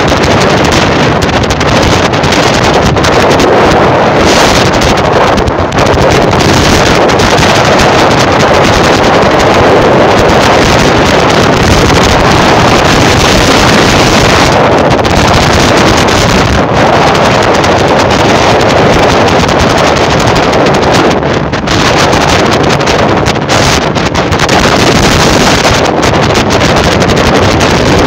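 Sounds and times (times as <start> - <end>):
road noise: 0.0 - 28.0
wind rushing over microphone: 0.0 - 28.0.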